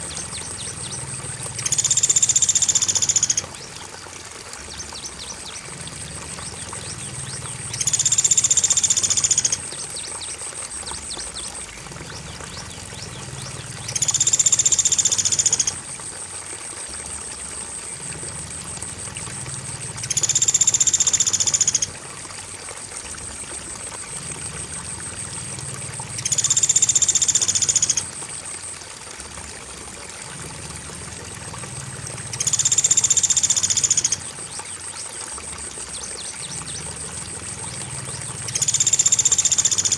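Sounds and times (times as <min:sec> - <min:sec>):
crickets chirring: 0:00.0 - 0:29.0, 0:29.6 - 0:39.9
flowing water: 0:00.0 - 0:39.9.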